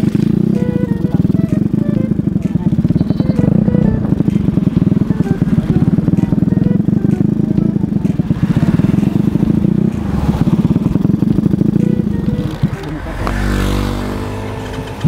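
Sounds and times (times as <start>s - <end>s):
scooter engine buzzing: 0.0s - 15.0s.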